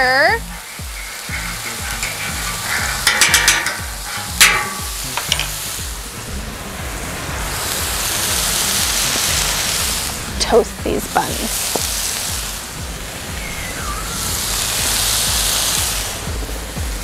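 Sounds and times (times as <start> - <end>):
burger patties sizzling on griddle: 0.0 - 17.0.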